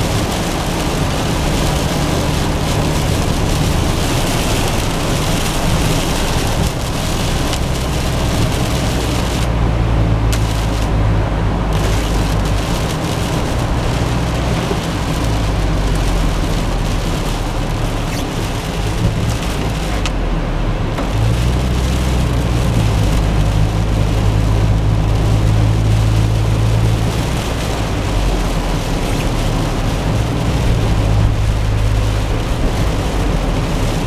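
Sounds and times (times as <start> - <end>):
engine and road drone: 0.0 - 34.0
rain on windshield: 0.0 - 34.0
tyres hissing on wet pavement: 0.0 - 34.0.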